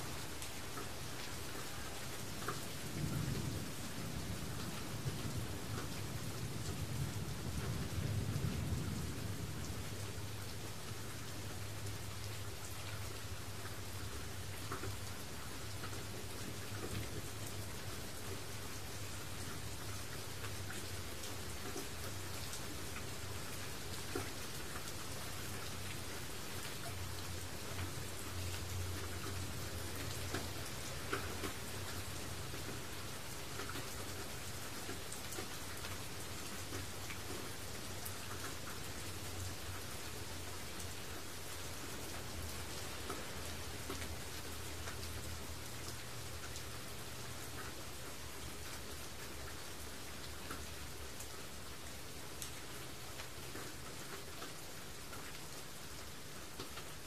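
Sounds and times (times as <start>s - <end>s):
rain hissing: 0.0s - 57.0s
raindrops ticking on a surface: 0.0s - 57.0s.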